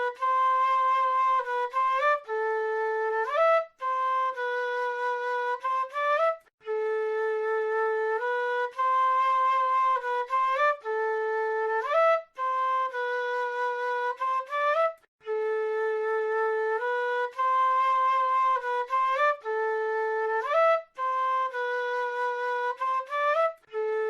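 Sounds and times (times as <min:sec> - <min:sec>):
flute playing slow melody: 0:00.0 - 0:24.0.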